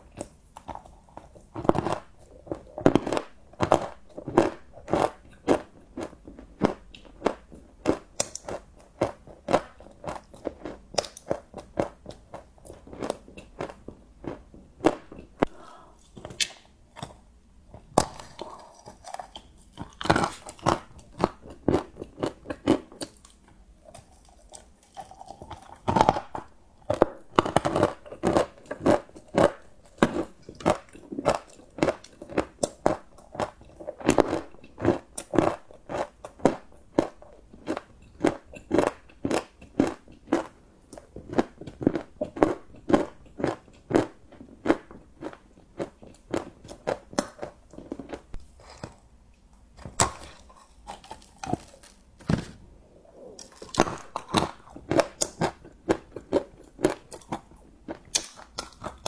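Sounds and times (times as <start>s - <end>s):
crunchy chocolate chewing: 0.0s - 49.1s, 49.7s - 59.0s.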